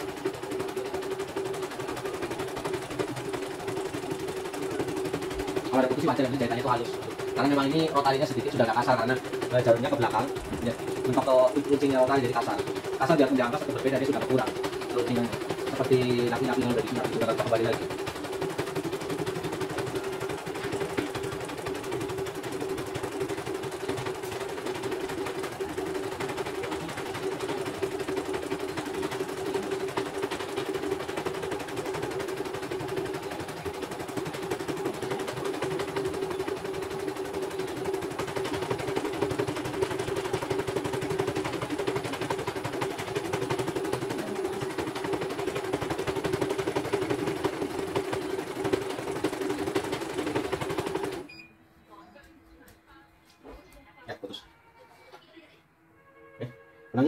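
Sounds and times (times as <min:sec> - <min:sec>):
embroidery machine stitching: 0:00.0 - 0:51.3.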